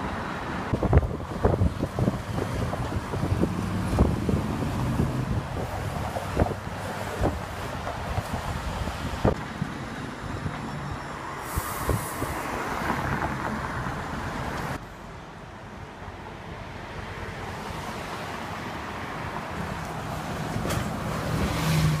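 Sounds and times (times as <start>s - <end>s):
city bus engine: 0.0s - 22.0s
street noise: 0.0s - 22.0s.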